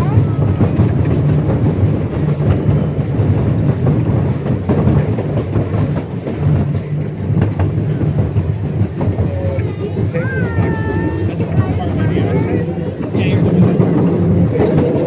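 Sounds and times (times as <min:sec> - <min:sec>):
train rumbling on track: 0:00.0 - 0:15.0
wheels clicking over rails: 0:00.0 - 0:15.0.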